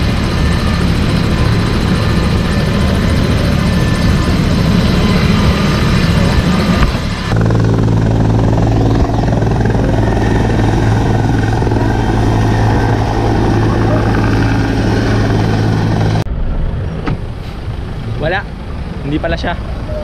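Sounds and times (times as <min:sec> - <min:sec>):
helicopter droning: 0:00.0 - 0:20.0.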